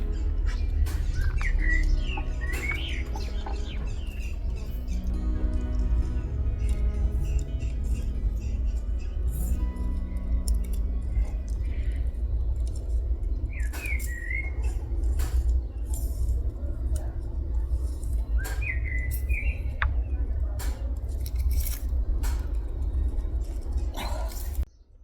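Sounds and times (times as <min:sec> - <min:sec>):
steady low rumble: 0:00.0 - 0:24.7.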